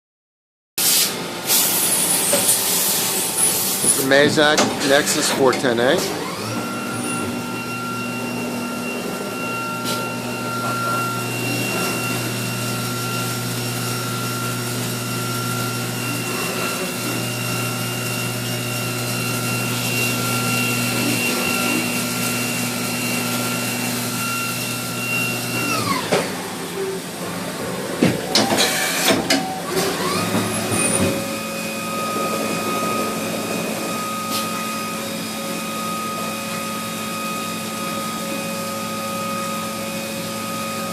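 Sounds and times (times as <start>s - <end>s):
machine spindle whine: 1.7s - 40.9s.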